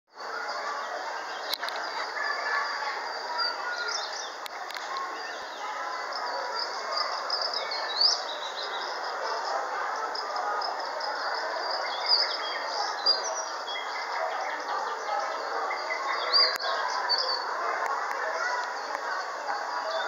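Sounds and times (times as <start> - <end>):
background hubbub: 0.1 - 20.0
small birds chirping: 0.1 - 20.0.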